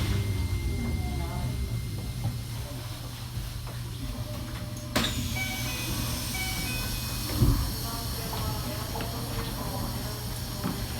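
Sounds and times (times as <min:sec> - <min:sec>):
train interior low hum: 0:00.0 - 0:10.9.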